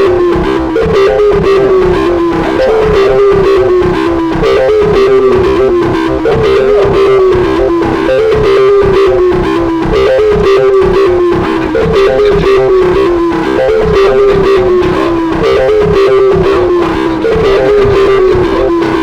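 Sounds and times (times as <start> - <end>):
distorted guitar melody over beat: 0.0 - 19.0.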